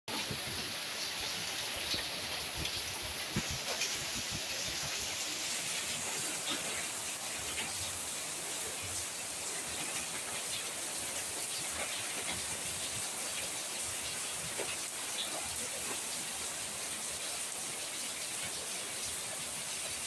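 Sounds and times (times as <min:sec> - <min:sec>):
rain hissing: 0:00.1 - 0:20.0.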